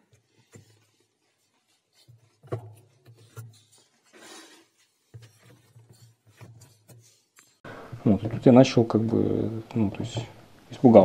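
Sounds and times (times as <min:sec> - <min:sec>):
faint rubbing and handling noises: 0:00.0 - 0:11.0.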